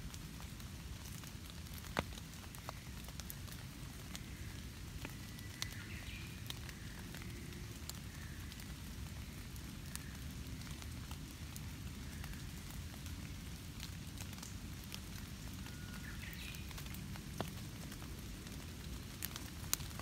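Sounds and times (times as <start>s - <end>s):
rain on dead leaves: 0.0s - 20.0s.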